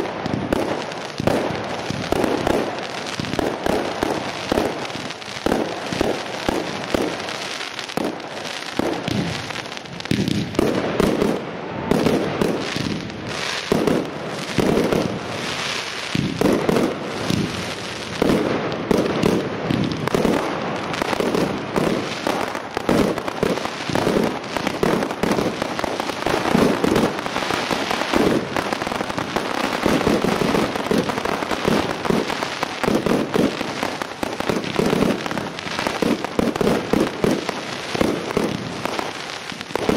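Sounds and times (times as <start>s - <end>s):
fireworks bursting with bangs: 0.0s - 39.9s
fireworks crackling: 0.0s - 39.9s.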